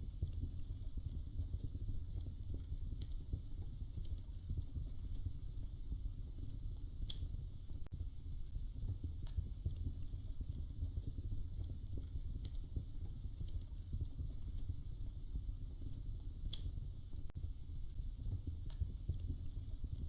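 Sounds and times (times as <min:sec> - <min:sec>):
low rumble of flames: 0:00.0 - 0:20.0
wood fire popping and snapping: 0:00.0 - 0:20.0.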